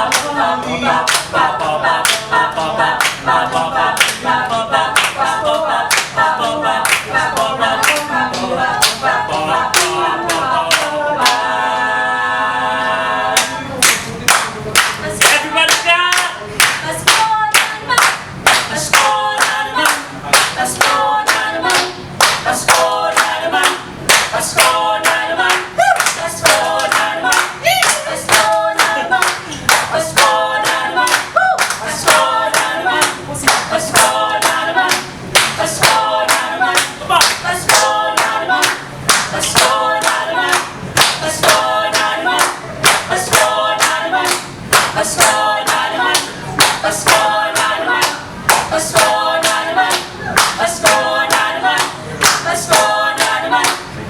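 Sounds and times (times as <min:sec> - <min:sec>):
a cappella choir singing: 0:00.0 - 0:54.0
hand claps: 0:04.0 - 0:04.3, 0:05.9 - 0:06.2, 0:06.8 - 0:09.0, 0:09.7 - 0:11.4, 0:13.4 - 0:53.9.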